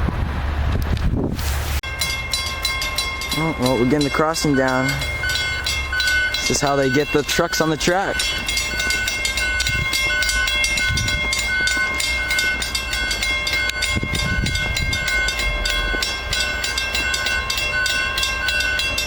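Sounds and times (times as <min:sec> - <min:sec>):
railroad crossing bell ringing: 0:01.8 - 0:19.0.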